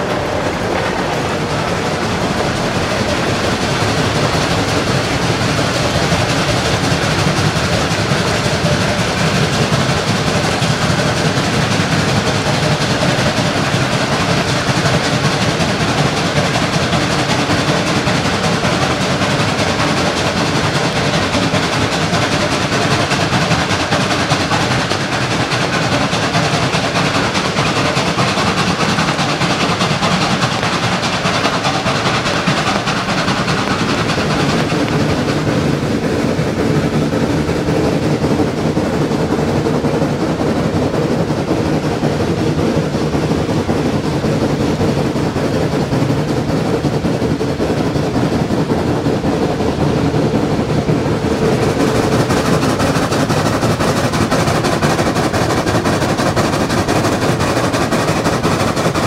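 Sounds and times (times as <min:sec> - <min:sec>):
steam locomotive running on rails: 0:00.0 - 0:59.0.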